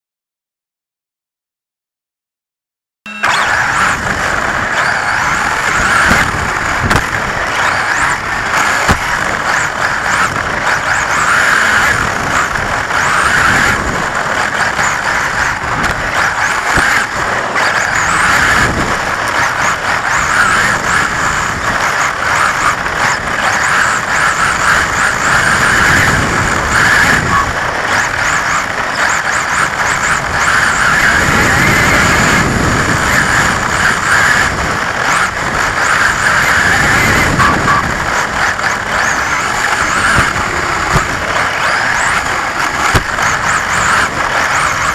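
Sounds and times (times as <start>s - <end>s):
electric motor whine: 3.1s - 44.9s.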